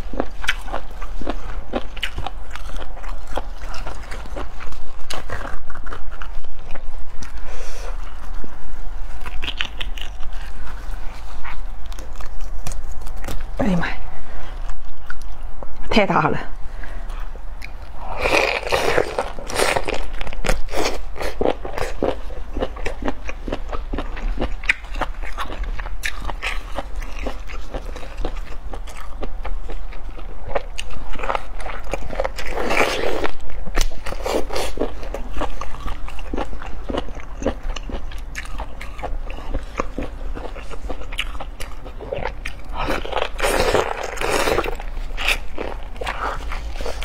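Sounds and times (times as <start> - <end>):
wet chewing: 0.0 - 8.4, 9.1 - 13.5, 17.6 - 47.0.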